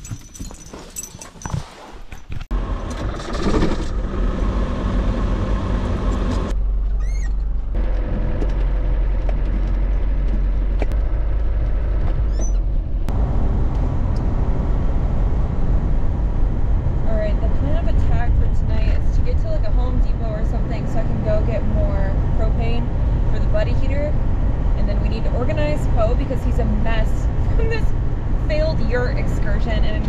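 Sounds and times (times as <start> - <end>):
road noise: 2.3 - 30.0
engine drone: 2.5 - 30.0.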